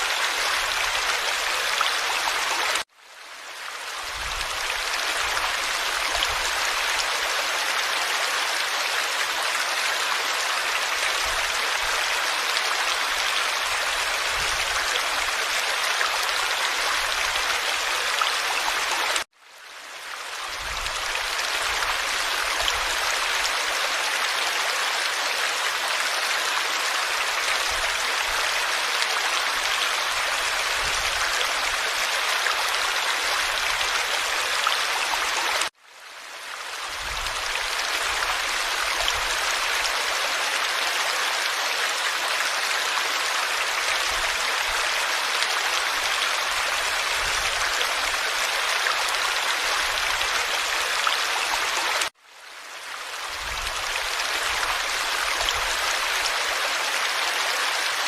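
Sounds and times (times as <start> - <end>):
stream water rushing and babbling: 0.0 - 58.0.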